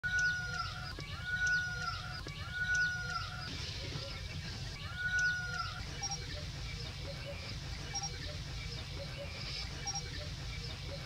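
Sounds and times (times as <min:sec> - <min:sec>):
high falling bird chirps: 0:00.0 - 0:11.0.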